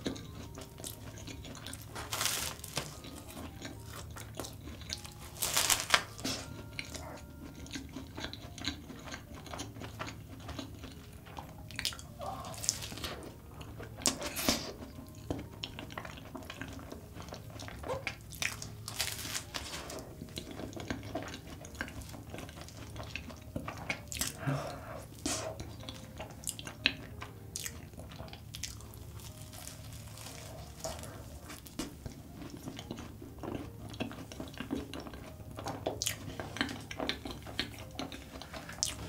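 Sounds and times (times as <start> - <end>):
wet sticky chewing: 0.0 - 39.0.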